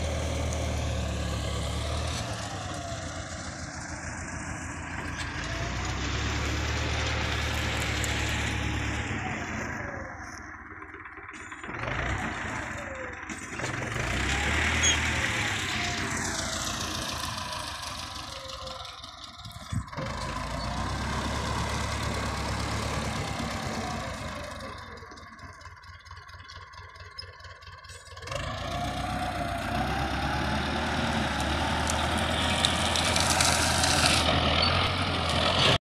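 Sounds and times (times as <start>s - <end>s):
tractor diesel engine running: 0.0s - 35.8s.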